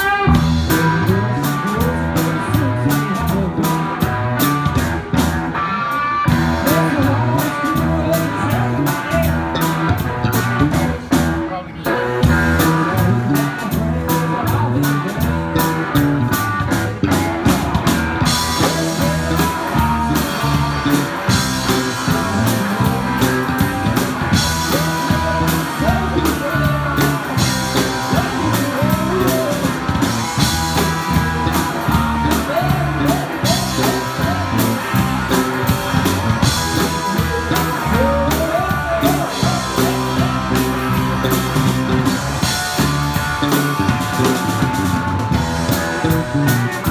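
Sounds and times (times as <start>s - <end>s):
drum kit: 0.0s - 46.9s
electric guitars: 0.0s - 46.9s.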